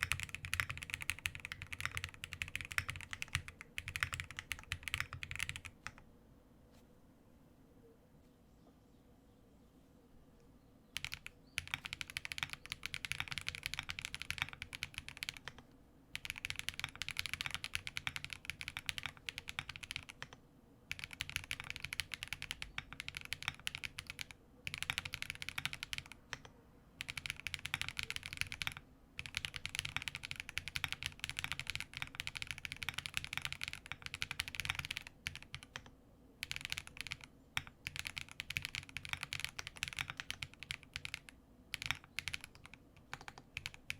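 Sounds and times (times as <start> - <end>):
mechanical keyboard typing: 0.0 - 6.0, 11.0 - 43.9.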